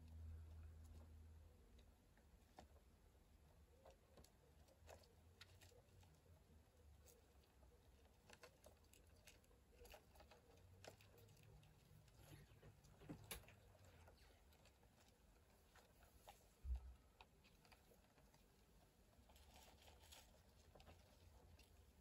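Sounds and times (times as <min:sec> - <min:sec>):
faint clicks and crackles of chewing: 0:00.0 - 0:22.0.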